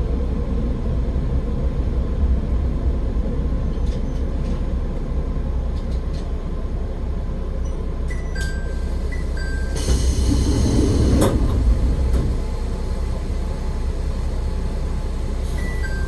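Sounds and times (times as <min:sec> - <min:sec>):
diesel railcar engine rumble: 0:00.0 - 0:16.0.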